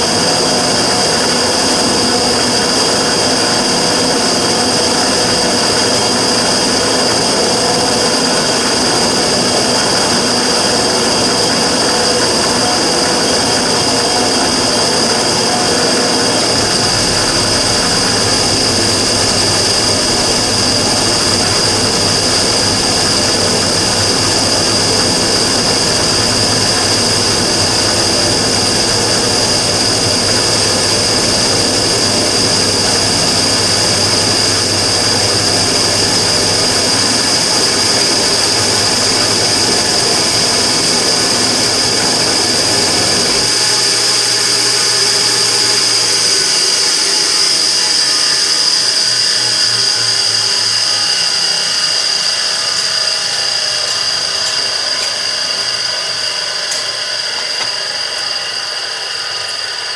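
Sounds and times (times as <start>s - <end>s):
low hum: 0.0s - 51.8s
gas burner running: 0.0s - 59.9s.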